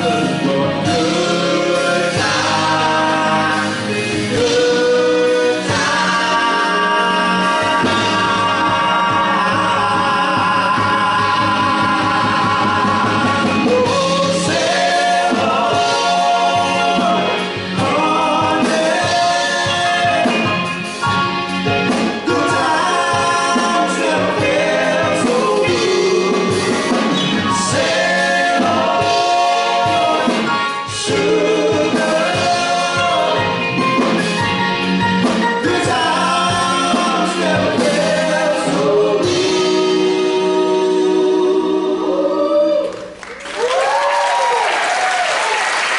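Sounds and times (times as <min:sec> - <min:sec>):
live band with drums: 0:00.0 - 0:42.3
male vocal group singing in harmony: 0:00.0 - 0:43.2.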